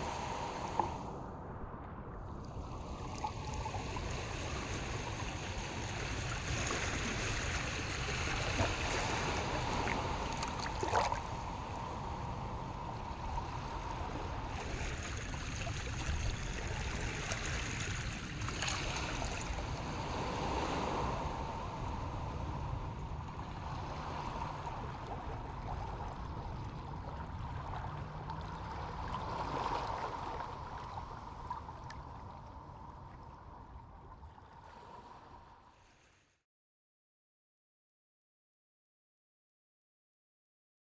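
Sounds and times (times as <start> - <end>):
water lapping toward shore: 0.0 - 1.3, 2.2 - 36.2.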